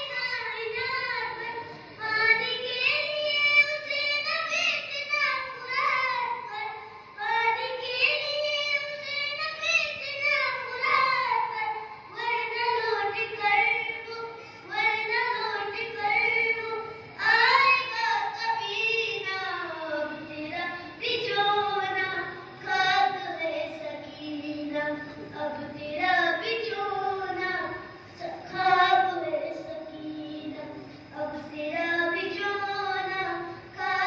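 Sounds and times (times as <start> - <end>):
boy chanting a mourning lament: 0.0 - 34.0.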